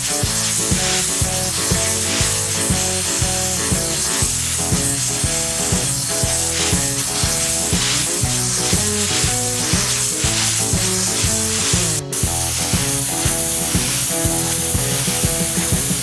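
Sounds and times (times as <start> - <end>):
background music with beat: 0.0 - 16.0
pressure washer spray hissing: 0.0 - 16.0.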